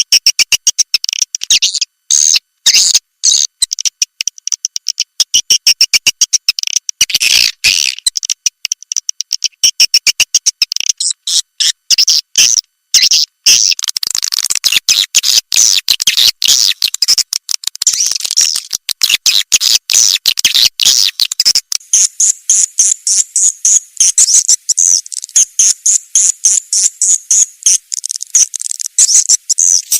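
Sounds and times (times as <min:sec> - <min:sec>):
high bird chirps and twitters: 0:00.0 - 0:08.5, 0:09.2 - 0:29.9.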